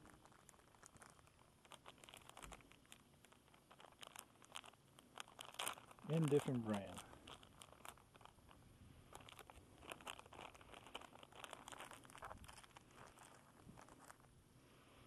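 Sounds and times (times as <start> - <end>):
plastic packet crinkling: 0.0 - 14.4.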